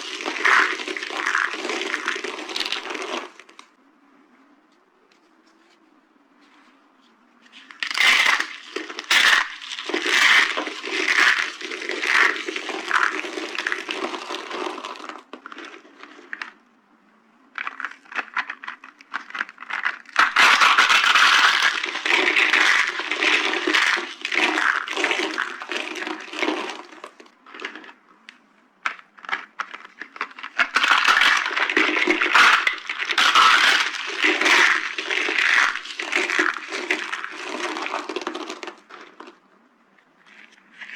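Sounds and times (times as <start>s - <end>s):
dry soap crunching: 0.0s - 3.7s, 7.4s - 16.6s, 17.5s - 39.5s.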